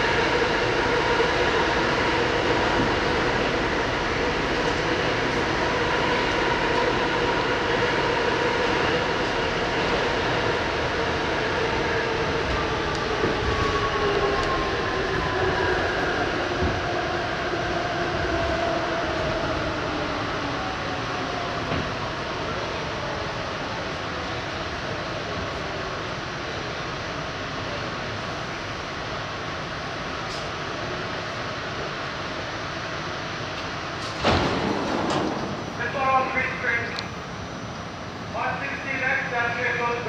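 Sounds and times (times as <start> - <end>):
subway car running through tunnel: 0.0 - 40.0.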